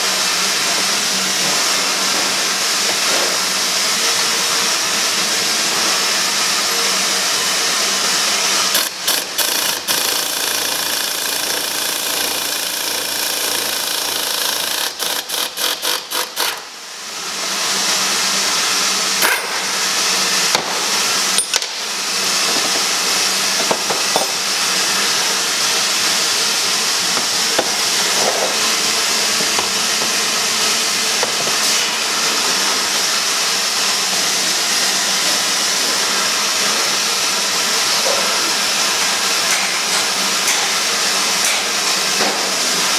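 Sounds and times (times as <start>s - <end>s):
shop noise hiss: 0.0s - 42.9s.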